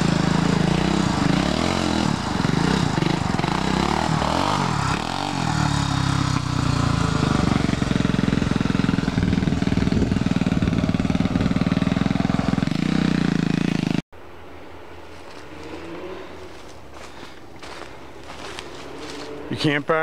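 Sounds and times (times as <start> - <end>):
off-road vehicle engine running: 0.0 - 14.0, 15.1 - 20.0.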